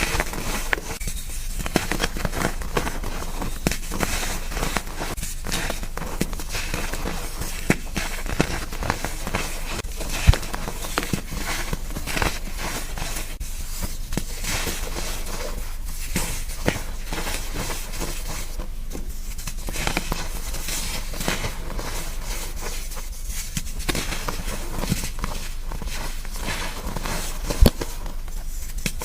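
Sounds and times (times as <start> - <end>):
chalk crunching and crackling: 0.0 - 29.0.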